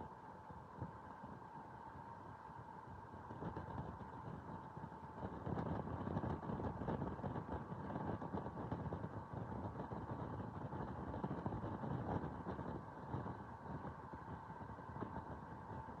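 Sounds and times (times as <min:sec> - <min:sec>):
faint constant whine: 0:00.0 - 0:16.0.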